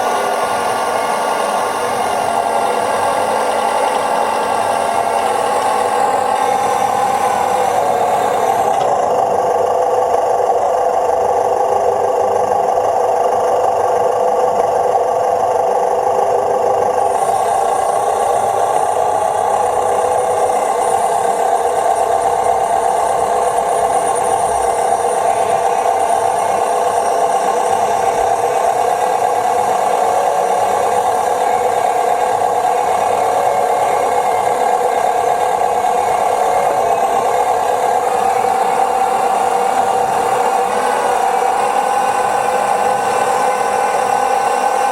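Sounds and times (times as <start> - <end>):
model tractors running: 0.0 - 44.9.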